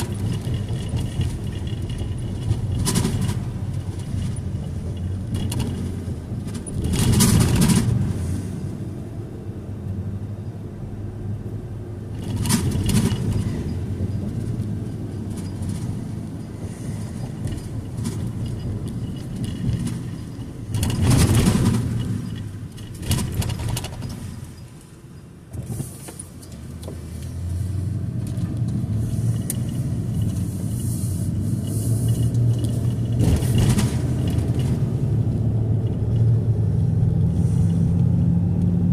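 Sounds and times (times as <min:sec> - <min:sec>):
car engine and road hum: 0:00.0 - 0:38.9
tyre and passing traffic noise: 0:00.0 - 0:38.9.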